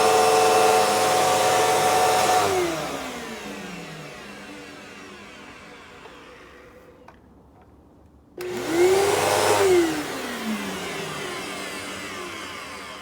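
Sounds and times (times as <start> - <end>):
vacuum cleaner motor whine: 0.0 - 7.3, 8.4 - 13.0.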